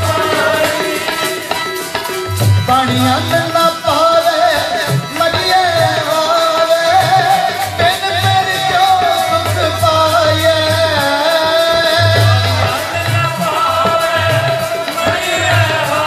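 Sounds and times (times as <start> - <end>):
harmonium melody: 0.0 - 16.0
tabla playing: 0.0 - 16.0.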